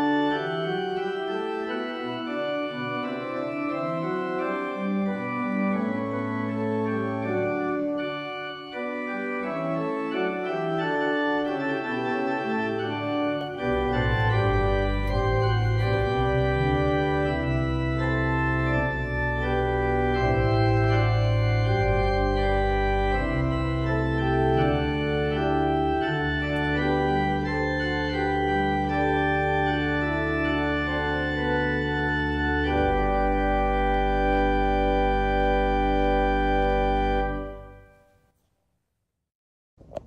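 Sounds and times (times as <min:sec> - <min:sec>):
church organ chords: 0:00.0 - 0:38.1.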